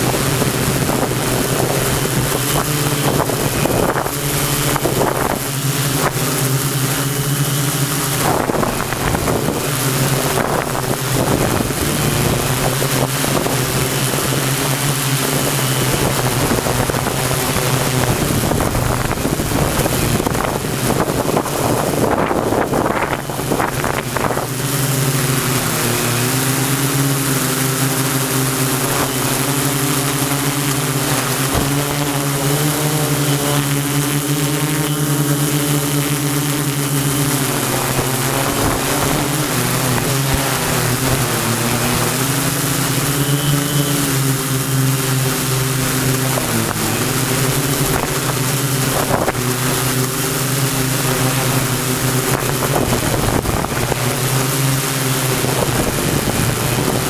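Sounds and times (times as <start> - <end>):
drone motors buzzing: 0.0 - 57.0
wind noise on microphone: 0.0 - 57.0.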